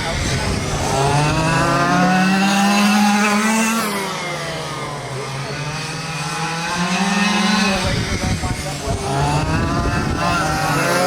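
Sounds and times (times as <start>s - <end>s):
small model truck engines: 0.0s - 11.0s.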